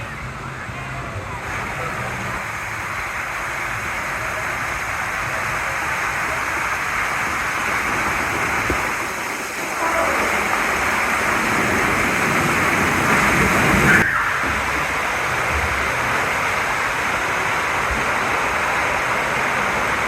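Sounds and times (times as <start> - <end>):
splashing falling water: 0.1 - 20.0.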